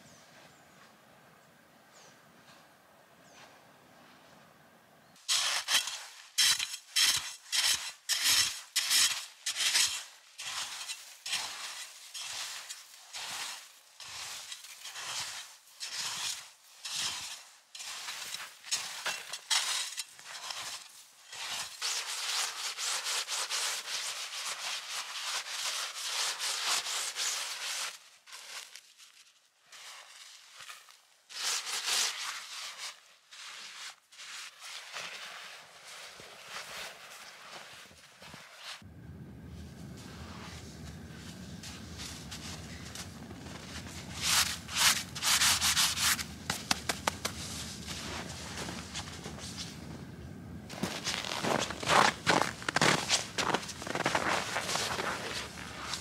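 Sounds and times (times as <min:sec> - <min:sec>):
snow crunching and scraping: 0:05.1 - 0:56.0.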